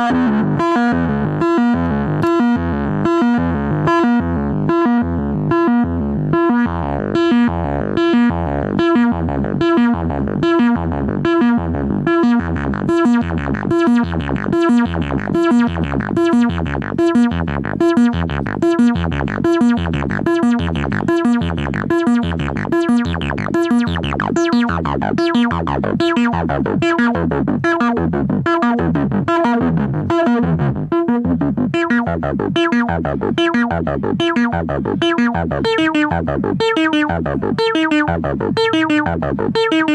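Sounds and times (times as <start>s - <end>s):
synthesizer repeating sequence: 0.0s - 39.9s.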